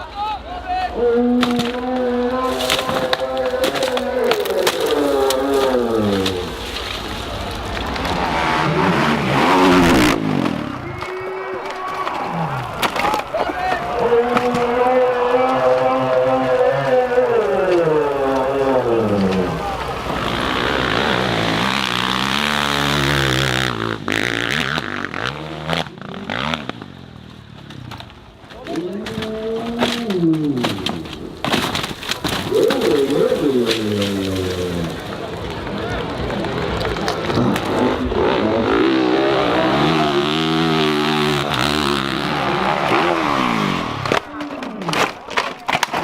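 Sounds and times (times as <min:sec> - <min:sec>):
dirt bike engine revving: 0:01.0 - 0:12.8, 0:13.9 - 0:27.9, 0:32.4 - 0:44.2.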